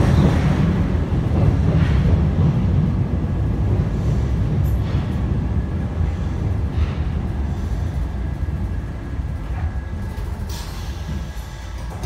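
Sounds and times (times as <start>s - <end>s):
metro train rumbling on track: 0.0s - 12.0s.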